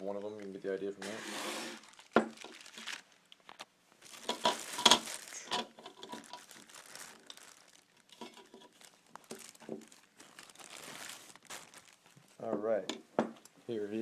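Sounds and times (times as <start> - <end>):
packaging crinkling and rustling: 0.1 - 12.4.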